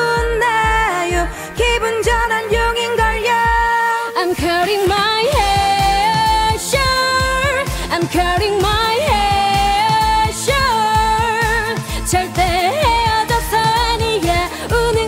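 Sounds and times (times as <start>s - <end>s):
backing track with drum beat: 0.0s - 15.0s
women singing pop song: 0.0s - 15.0s.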